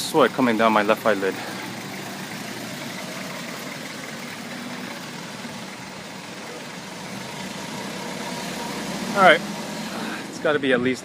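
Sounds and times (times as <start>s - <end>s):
car engines idling: 0.0s - 11.0s
road traffic: 0.0s - 11.0s.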